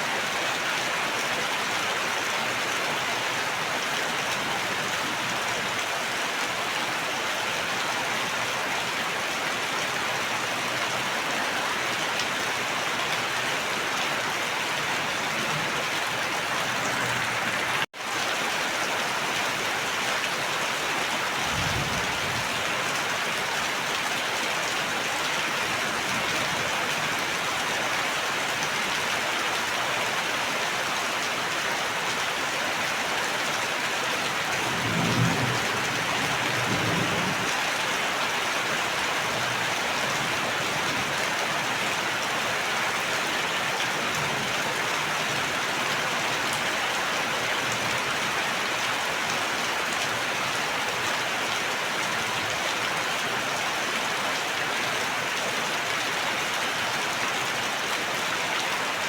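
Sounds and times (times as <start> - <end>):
heavy rain pattering: 2.6 - 59.0.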